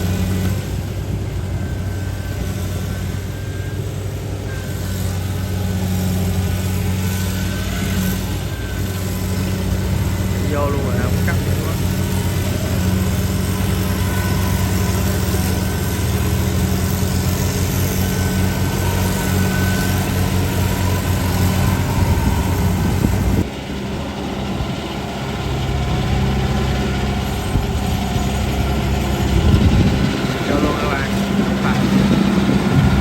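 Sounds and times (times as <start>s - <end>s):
diesel engine low drone: 0.0s - 33.0s.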